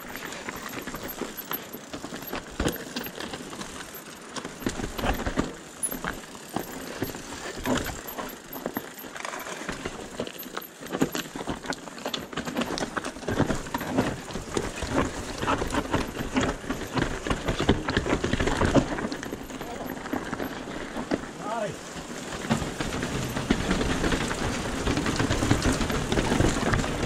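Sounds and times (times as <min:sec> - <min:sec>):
bike rattling and clattering: 0:00.0 - 0:27.0
tyres crunching over loose stones: 0:00.0 - 0:27.0.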